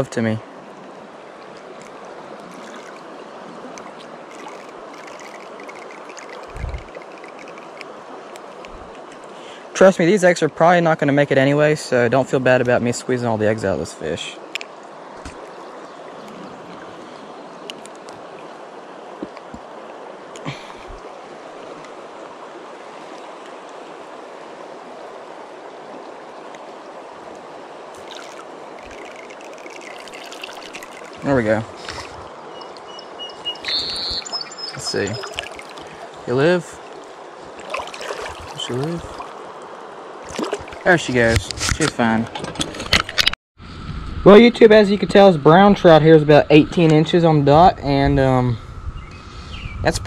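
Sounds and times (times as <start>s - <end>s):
creek water running over riffles: 0.0s - 43.1s.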